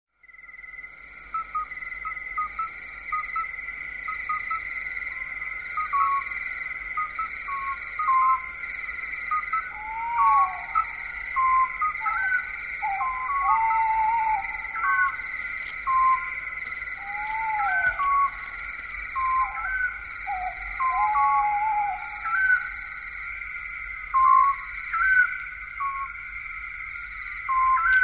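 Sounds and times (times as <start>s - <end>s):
crickets trilling: 0.2s - 28.0s.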